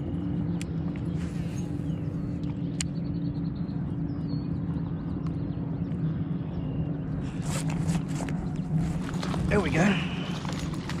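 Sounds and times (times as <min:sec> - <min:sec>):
outboard boat motors droning: 0:00.0 - 0:11.0.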